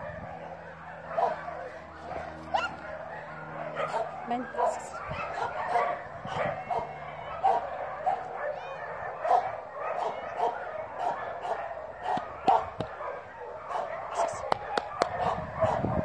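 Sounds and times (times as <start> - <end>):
dogs barking and yipping: 0.0 - 16.0.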